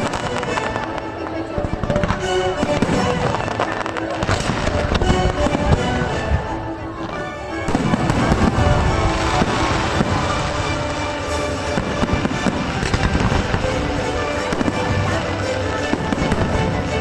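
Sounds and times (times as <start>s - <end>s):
fireworks bangs and crackles: 0.0s - 17.0s
music: 0.0s - 17.0s.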